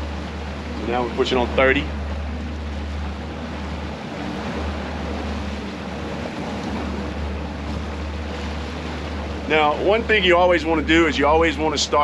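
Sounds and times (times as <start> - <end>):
outboard motors droning: 0.0 - 12.0
wake washing: 0.0 - 12.0.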